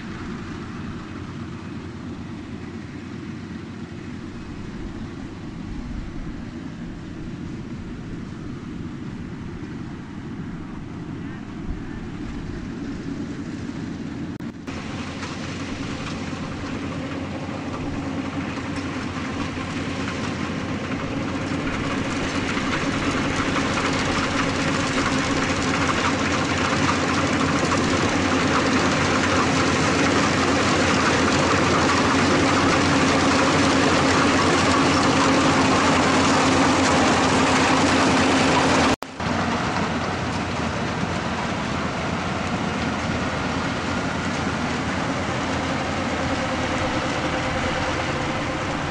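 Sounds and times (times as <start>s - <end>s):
combine harvester diesel engine: 0.0s - 48.9s
mechanical rush: 0.0s - 48.9s.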